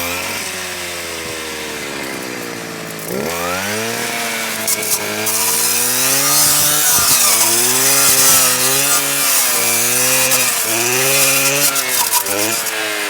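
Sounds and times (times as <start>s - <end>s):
power saw cutting: 0.0s - 13.0s.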